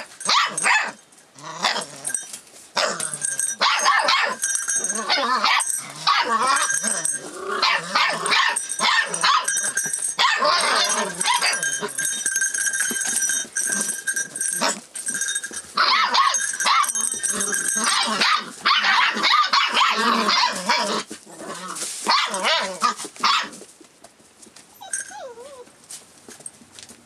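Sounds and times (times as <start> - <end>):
puppies yapping barking and growling: 0.0 - 23.6, 24.7 - 25.8.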